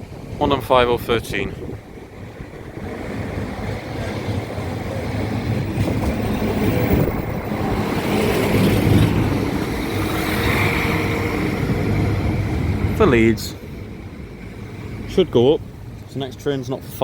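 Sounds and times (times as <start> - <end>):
diesel train engine drone: 0.0 - 17.0.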